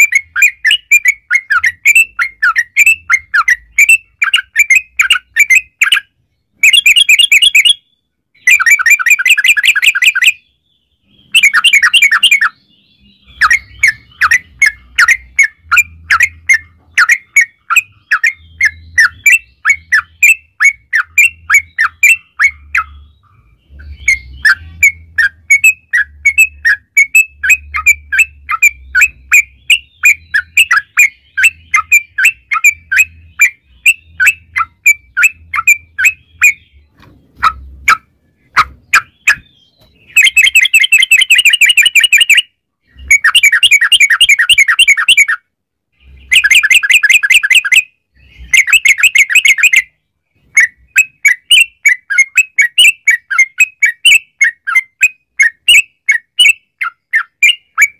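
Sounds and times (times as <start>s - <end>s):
bird chirps: 0.0s - 57.9s.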